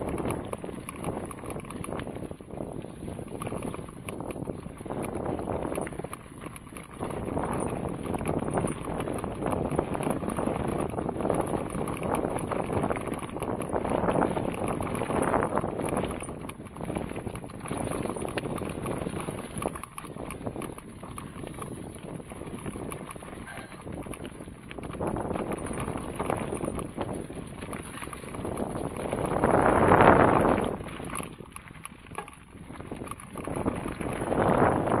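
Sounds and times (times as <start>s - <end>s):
bike tyres rolling over leaves: 0.0s - 35.0s
wind buffeting microphone: 0.0s - 35.0s.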